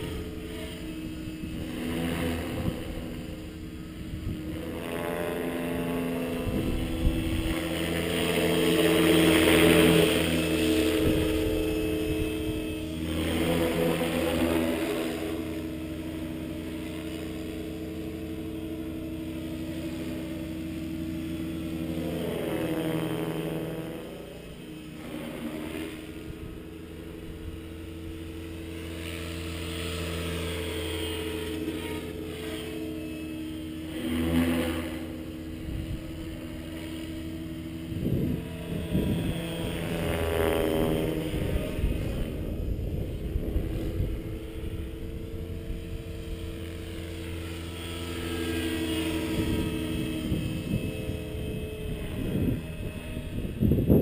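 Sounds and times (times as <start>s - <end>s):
model helicopter whining: 0.0s - 54.0s.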